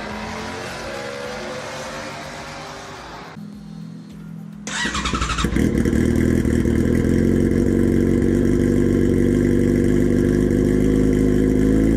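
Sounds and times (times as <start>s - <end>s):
vehicle engine starting and running: 0.0s - 3.4s, 4.6s - 11.9s.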